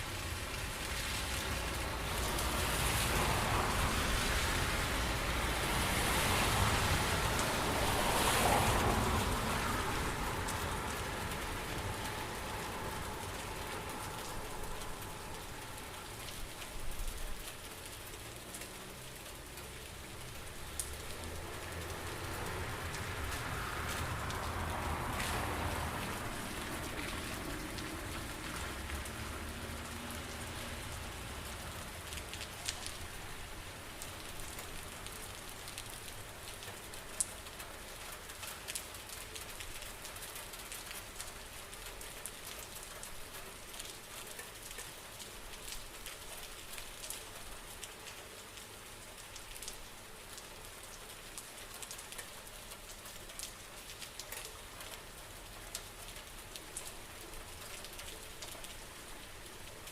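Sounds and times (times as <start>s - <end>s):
sharp raindrops striking: 0.0s - 59.9s
steady rain falling: 0.0s - 59.9s.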